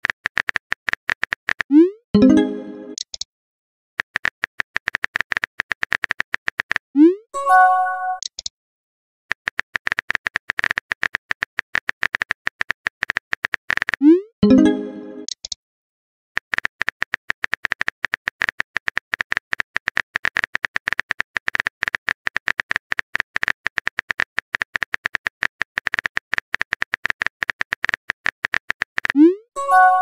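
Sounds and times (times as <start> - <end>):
keyboard typing clicks: 0.0 - 3.3, 4.0 - 7.1, 8.0 - 8.5, 9.3 - 15.6, 16.4 - 30.0.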